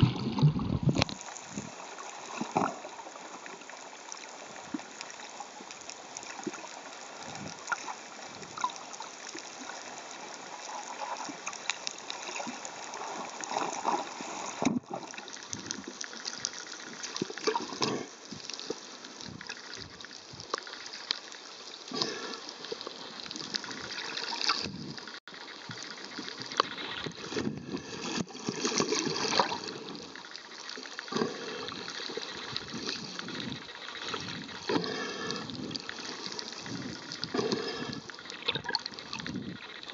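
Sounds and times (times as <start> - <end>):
small crackles and pops: 0.0 - 39.9
water sloshing and bubbling: 0.0 - 39.9.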